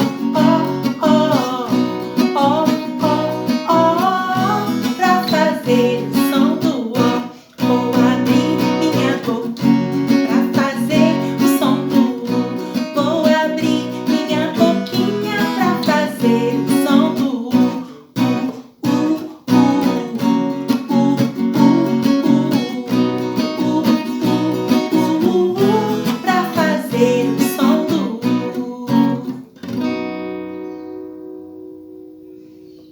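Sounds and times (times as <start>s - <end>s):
person singing children's song: 0.0s - 29.5s
acoustic guitar strumming: 0.0s - 32.9s.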